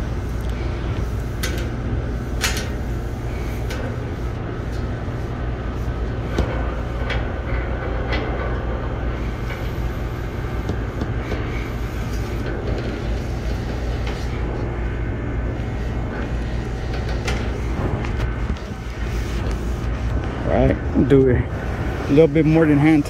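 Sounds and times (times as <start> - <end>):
mechanical rumble and hum: 0.0 - 23.0.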